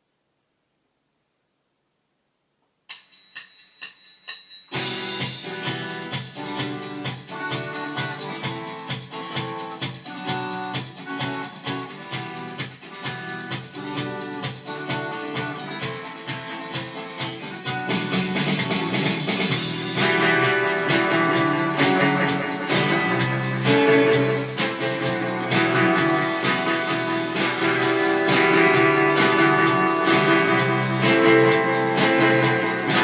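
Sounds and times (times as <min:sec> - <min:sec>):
thin steady high tone: 0:03.1 - 0:33.0
rock backing track: 0:04.7 - 0:33.0.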